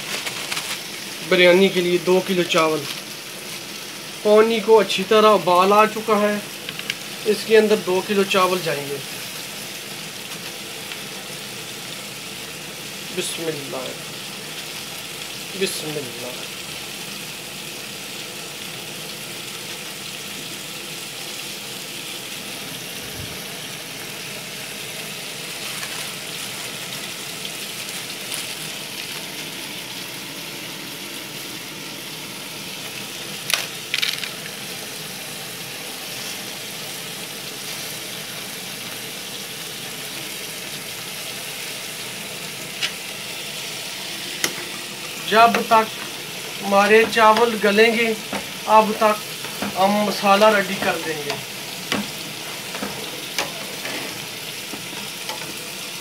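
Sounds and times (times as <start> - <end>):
pot boiling on gas stove: 0.0 - 56.0.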